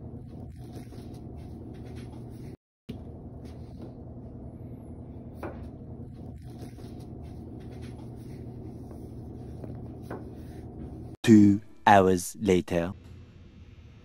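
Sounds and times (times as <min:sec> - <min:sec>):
low kitchen room hum: 0:00.0 - 0:14.0.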